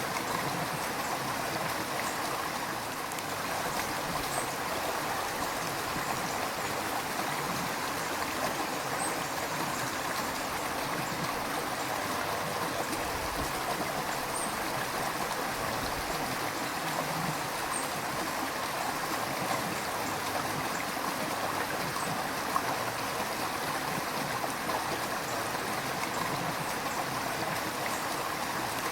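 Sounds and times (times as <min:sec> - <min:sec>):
river water flowing over stones: 0:00.0 - 0:28.9.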